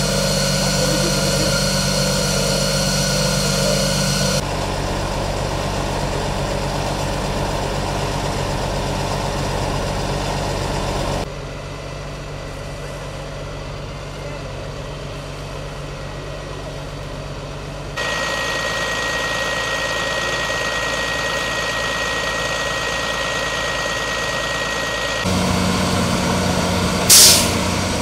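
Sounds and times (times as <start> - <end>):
truck engine humming: 0.0 - 28.0.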